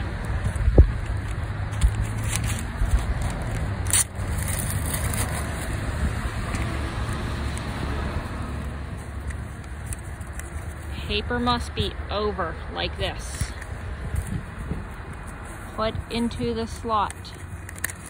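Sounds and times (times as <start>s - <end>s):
vehicles rumbling: 0.0s - 18.0s.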